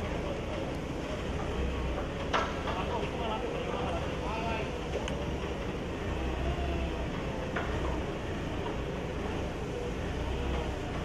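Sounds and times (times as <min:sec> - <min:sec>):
forklift engine rumbling: 0:00.0 - 0:11.0
noisy hum: 0:00.0 - 0:11.0.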